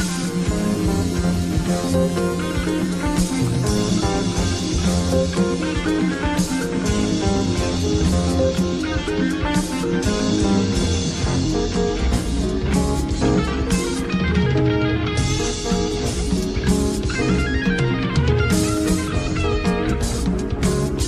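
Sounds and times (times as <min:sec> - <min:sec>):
electric guitar: 0:00.0 - 0:21.0
live fusion band playing: 0:00.0 - 0:21.0.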